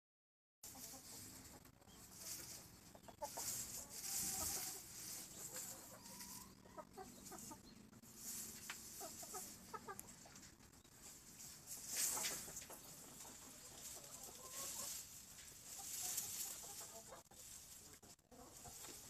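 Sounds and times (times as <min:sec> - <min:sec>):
hen clucking: 0:00.6 - 0:19.0
straw rustling: 0:00.6 - 0:19.0.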